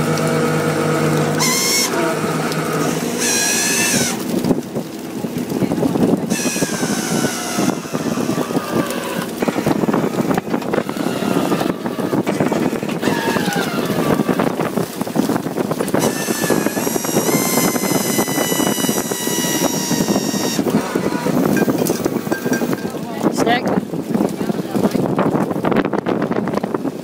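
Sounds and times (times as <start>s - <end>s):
boat engine and net hauler: 0.0s - 27.0s.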